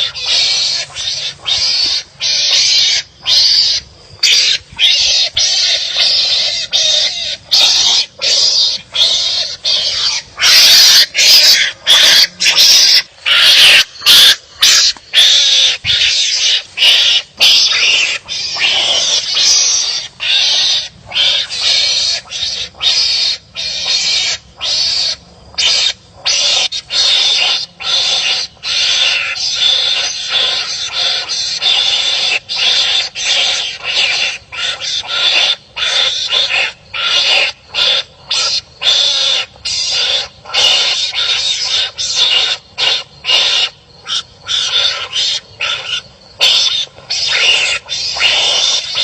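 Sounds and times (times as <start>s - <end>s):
raspy animal barking calls: 0.0s - 49.0s.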